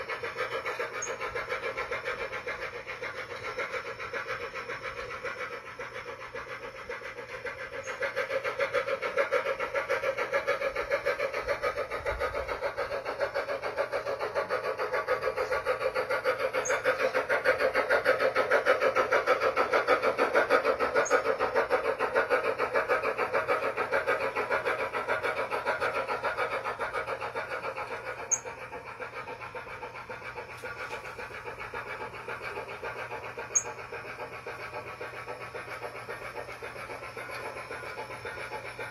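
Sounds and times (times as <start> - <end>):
steam chuffing from speaker: 0.0 - 38.9.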